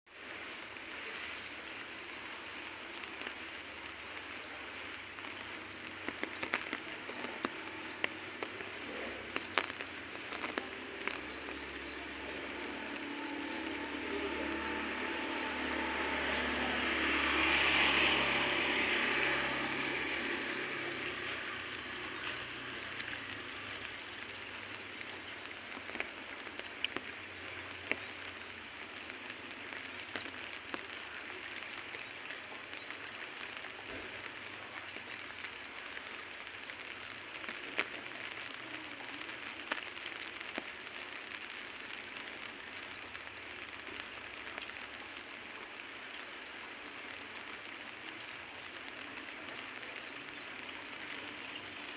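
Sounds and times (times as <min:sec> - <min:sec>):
light rain patter: 0:00.1 - 0:51.9.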